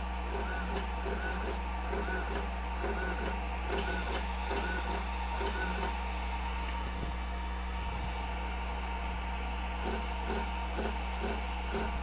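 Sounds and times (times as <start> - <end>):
steady low hum: 0.0 - 12.0
stepper motor whine: 0.0 - 12.0.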